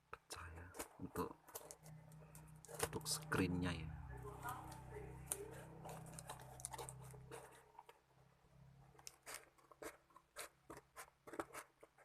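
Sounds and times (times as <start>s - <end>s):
packaging crackling and crinkling: 0.5s - 3.4s, 4.4s - 8.1s, 8.8s - 12.0s.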